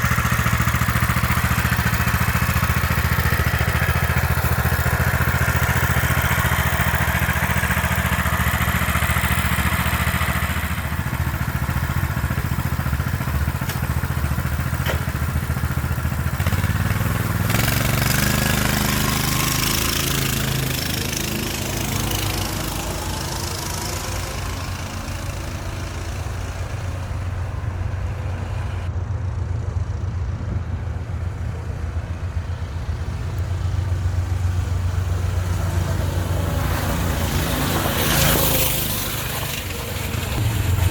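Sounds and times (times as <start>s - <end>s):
mini bike engine revving: 0.0s - 28.9s, 30.4s - 40.9s.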